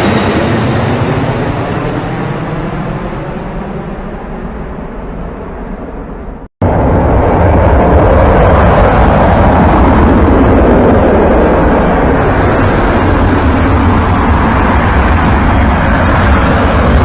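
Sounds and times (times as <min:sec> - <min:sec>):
aircraft engine roar: 0:00.0 - 0:17.0.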